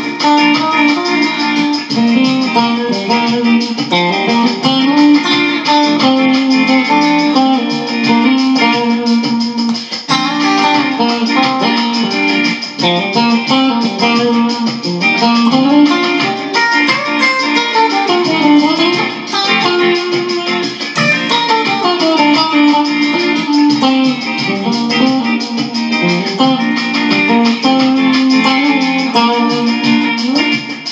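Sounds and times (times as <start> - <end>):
guitar plucked notes and chords: 0.0 - 30.9.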